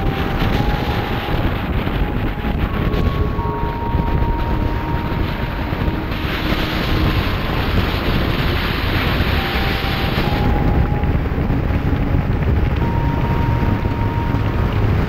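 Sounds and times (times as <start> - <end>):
tyre and road noise: 0.0 - 15.0
wind buffeting microphone: 0.0 - 15.0.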